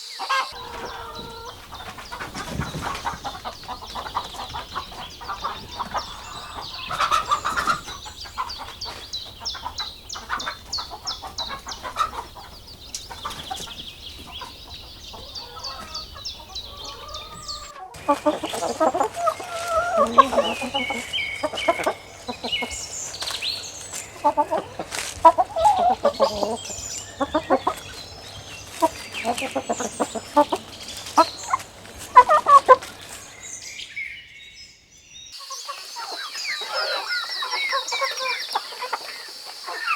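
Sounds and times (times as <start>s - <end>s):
chickens clucking: 0.0s - 33.6s, 35.4s - 39.9s.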